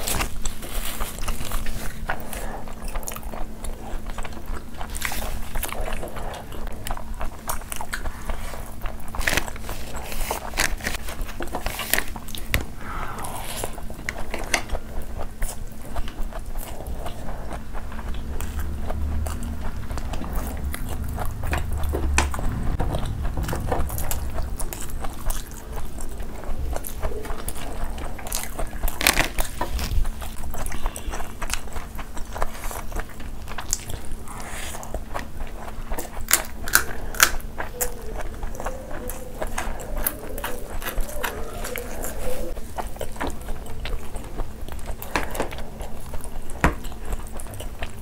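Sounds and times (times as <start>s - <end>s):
people chewing and smacking: 0.0s - 48.0s.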